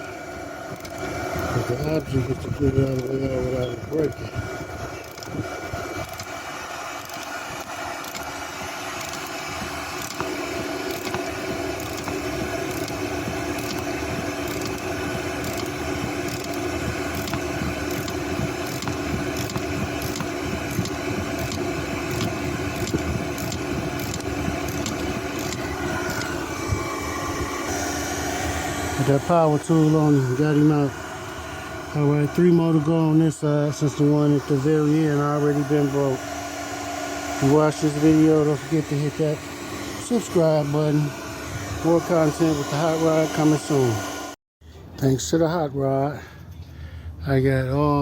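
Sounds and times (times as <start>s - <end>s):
power tool running: 0.0s - 44.4s.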